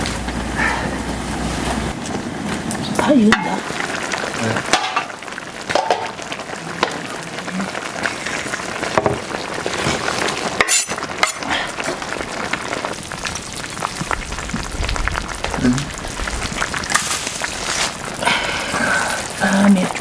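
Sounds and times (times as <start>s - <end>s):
wood fire pops and clicks: 0.0s - 7.2s, 8.0s - 18.3s
stew bubbling and sizzling: 0.0s - 20.0s.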